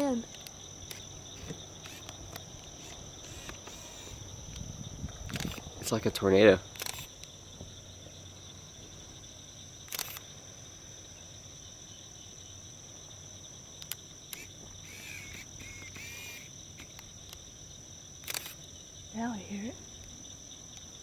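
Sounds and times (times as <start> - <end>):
faint chirping calls: 0.0 - 21.0
high-pitched insect chorus: 0.0 - 21.0.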